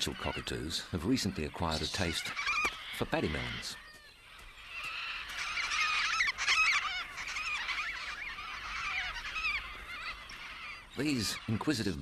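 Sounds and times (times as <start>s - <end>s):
cockatoos screeching: 0.0s - 12.0s.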